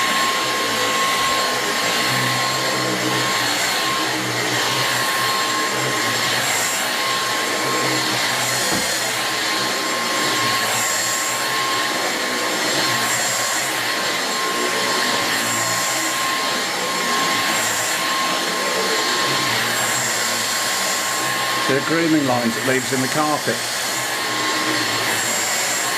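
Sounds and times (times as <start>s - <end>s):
vacuum cleaner motor whine: 0.0s - 25.9s.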